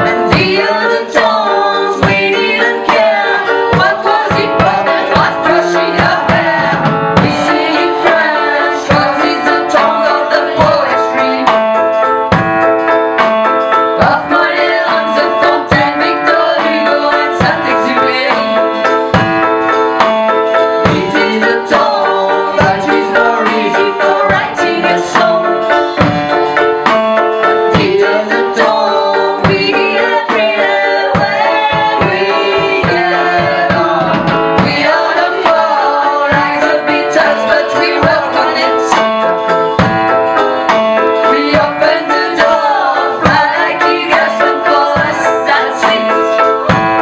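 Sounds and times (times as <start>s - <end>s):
lead and backing singing: 0.0s - 12.1s, 13.5s - 47.0s
live pop-rock band: 0.0s - 47.0s.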